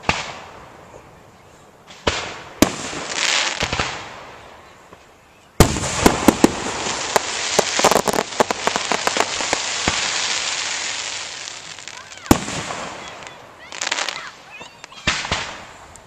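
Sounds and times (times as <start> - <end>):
fireworks crackling: 0.0 - 0.8, 1.8 - 16.0
fireworks bang: 1.9 - 5.0, 5.6 - 15.8.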